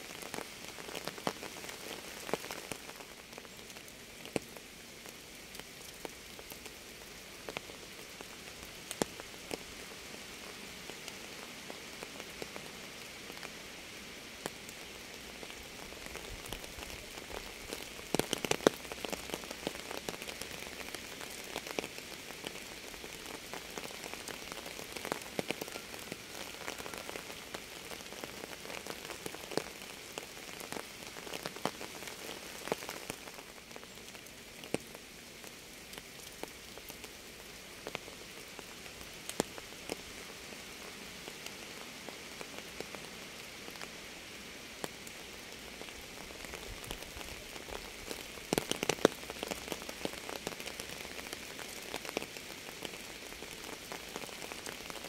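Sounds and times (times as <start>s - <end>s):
raindrops ticking: 0.0s - 9.9s, 14.4s - 43.9s, 44.8s - 55.0s
rain hiss: 0.0s - 55.0s.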